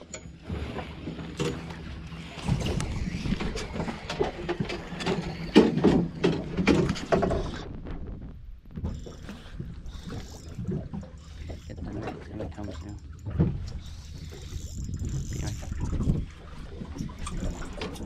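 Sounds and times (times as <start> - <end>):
knocks and clatter on boat: 0.0 - 18.0
low steady rumble: 0.0 - 18.0.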